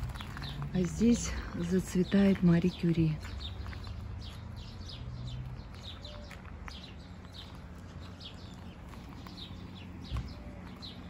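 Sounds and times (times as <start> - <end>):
small bird chirping: 2.0 - 11.0.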